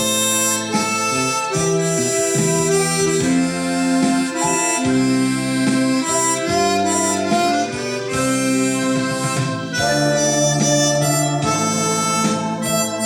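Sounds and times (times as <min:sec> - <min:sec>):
harmonica slow melody: 0:00.0 - 0:13.0.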